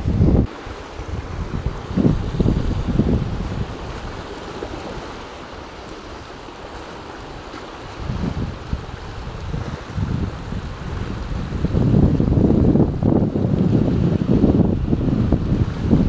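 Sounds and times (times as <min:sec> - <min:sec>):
surf washing against rocks: 0:00.0 - 0:16.0
wind buffeting microphone: 0:00.0 - 0:16.0.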